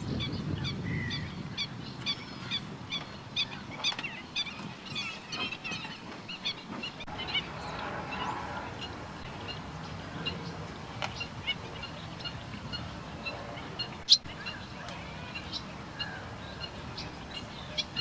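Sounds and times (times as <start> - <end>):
waterbirds calling: 0.0 - 18.0.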